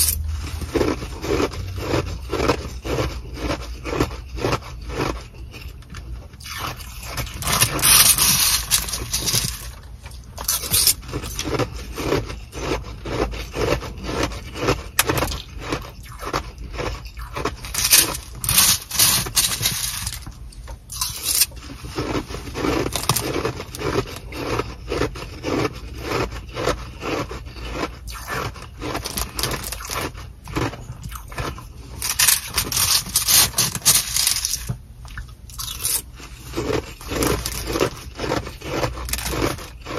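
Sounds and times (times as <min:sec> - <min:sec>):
metal spoon scraping ice: 0:00.0 - 0:34.8, 0:35.5 - 0:39.9
ice being chewed: 0:00.0 - 0:39.9.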